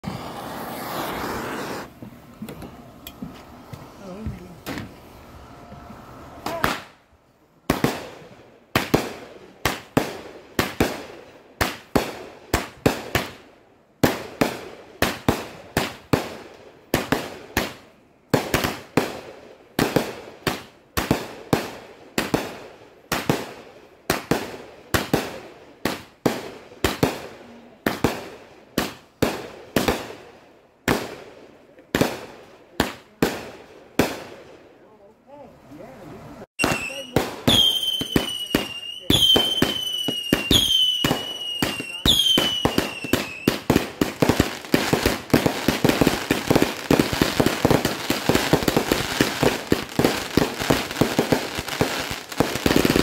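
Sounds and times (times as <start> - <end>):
firework cake firing: 0.0 - 2.0, 7.6 - 34.4, 36.5 - 53.0.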